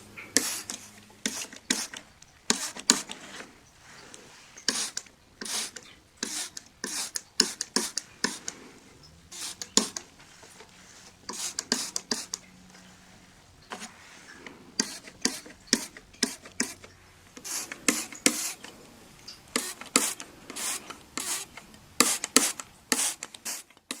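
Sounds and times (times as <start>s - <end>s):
hissy window cleaning strokes: 0.0s - 24.0s.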